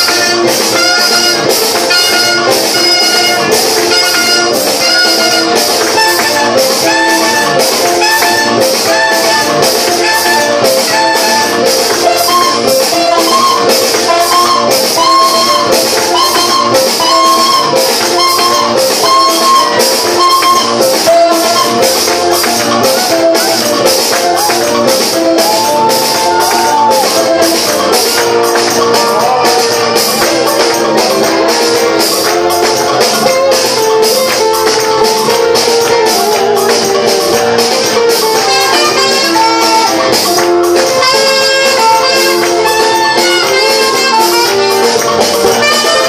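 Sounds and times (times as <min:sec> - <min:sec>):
live band music: 0:00.0 - 0:46.0
tambourine-like beat: 0:00.0 - 0:46.0.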